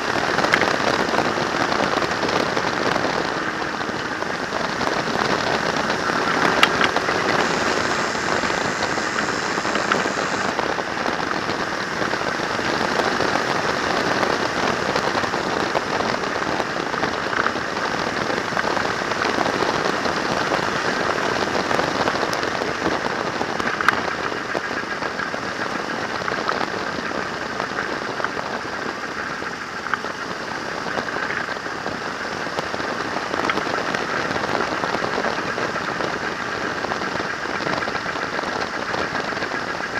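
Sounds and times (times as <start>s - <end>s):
road noise: 0.0s - 39.9s
rushing wind: 0.0s - 39.9s.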